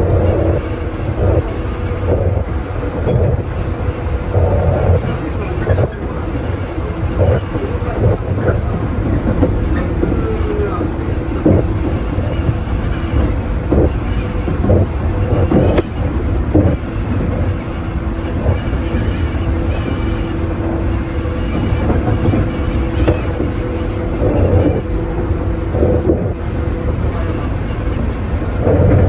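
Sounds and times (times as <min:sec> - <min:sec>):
train rumble and hum: 0:00.0 - 0:29.0.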